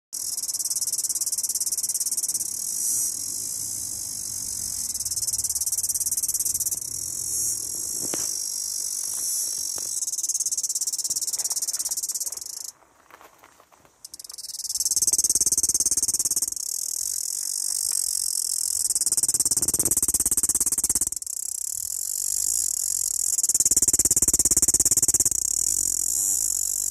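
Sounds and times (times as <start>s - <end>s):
cicada buzzing: 0.2s - 12.7s, 14.0s - 26.9s.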